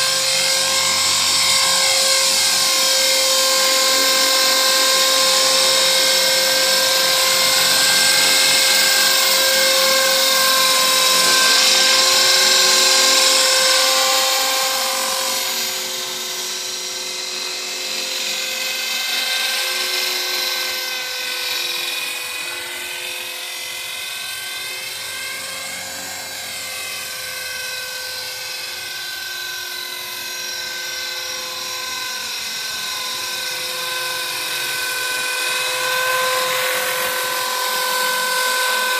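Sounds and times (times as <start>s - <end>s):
rc helicopter whine: 0.0s - 38.9s.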